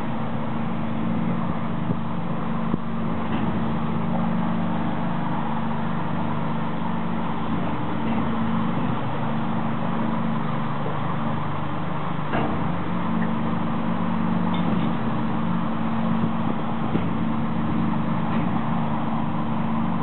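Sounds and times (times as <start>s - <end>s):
ship diesel engine humming: 0.0s - 20.0s.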